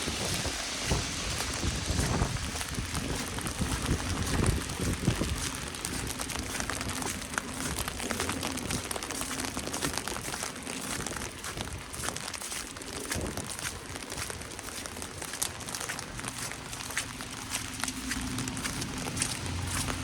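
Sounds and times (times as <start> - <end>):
crackle of falling wet snow: 0.0 - 20.0
footsteps crunching in snow: 0.0 - 20.0.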